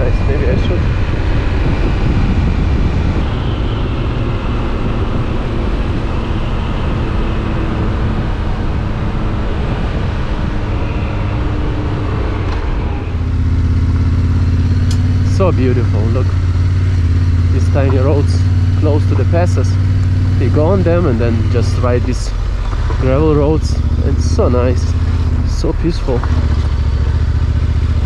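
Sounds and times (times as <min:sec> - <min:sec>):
wind rush on microphone: 0:00.0 - 0:25.7
motorcycle engine running: 0:00.0 - 0:28.0.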